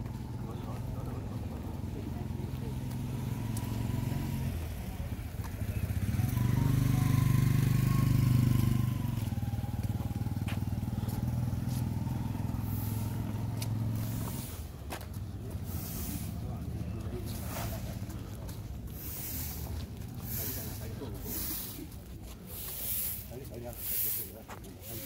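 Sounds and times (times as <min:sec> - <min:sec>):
motorcycle engine running: 0:00.0 - 0:23.3.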